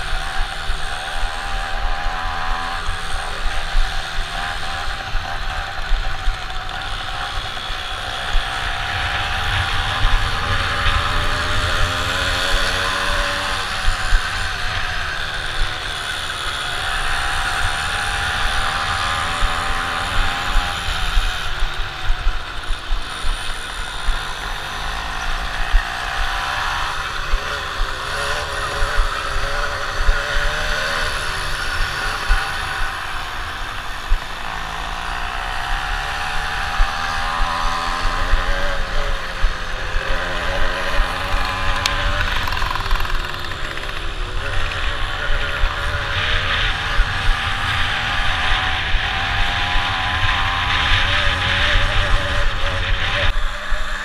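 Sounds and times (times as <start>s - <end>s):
moped engine revving: 0.0s - 54.0s
wind buffeting microphone: 0.0s - 54.0s.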